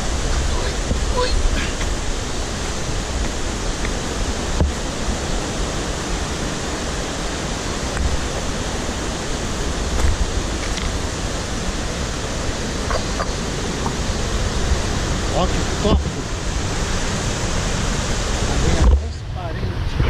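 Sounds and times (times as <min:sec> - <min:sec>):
river rapids rushing over boulders: 0:00.0 - 0:19.5.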